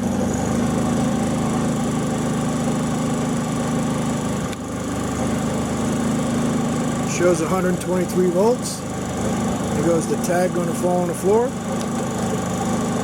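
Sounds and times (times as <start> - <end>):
generator running: 0.0 - 13.0.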